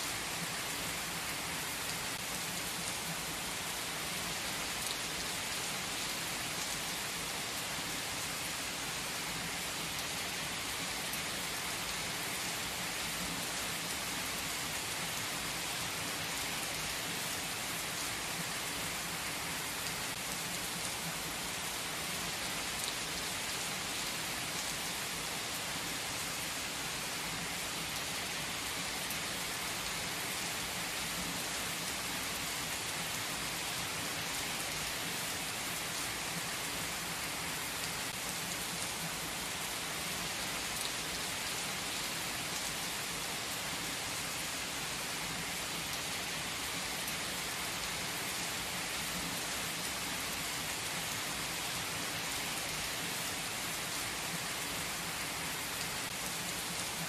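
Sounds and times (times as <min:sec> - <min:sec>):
heavy rain on asphalt: 0:00.0 - 0:57.0.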